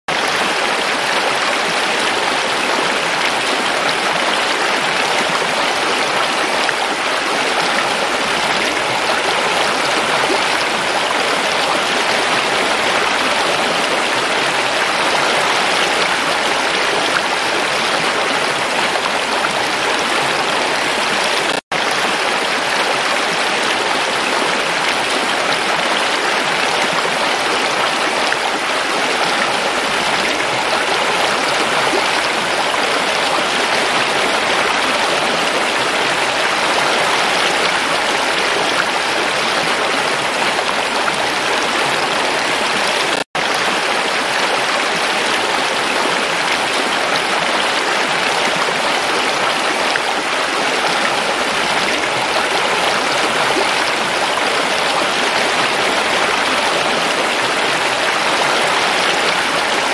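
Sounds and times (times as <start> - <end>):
stream splashing over rocks: 0.1 - 59.9.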